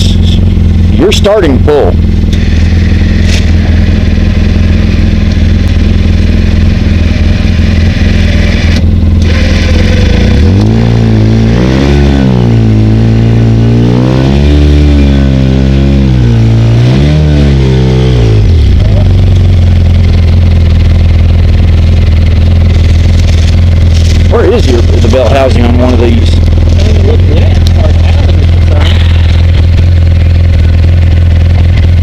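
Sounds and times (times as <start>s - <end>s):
utility vehicle engine revving: 0.0s - 32.0s.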